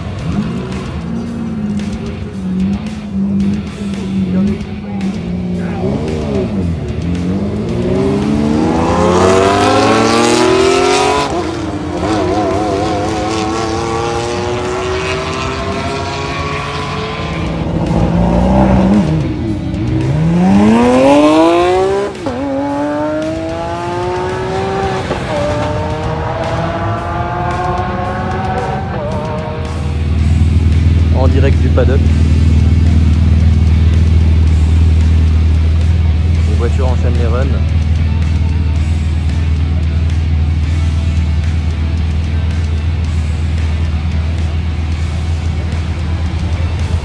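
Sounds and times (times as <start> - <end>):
supercar engines accelerating: 0.0 - 47.0.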